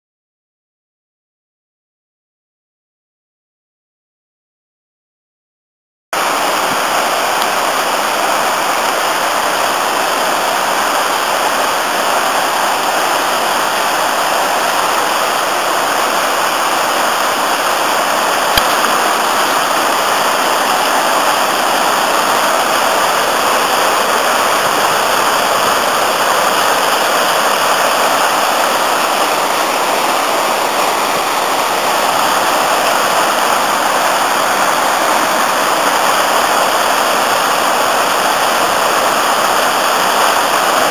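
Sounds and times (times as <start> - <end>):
river rushing over rapids: 6.2 - 40.9.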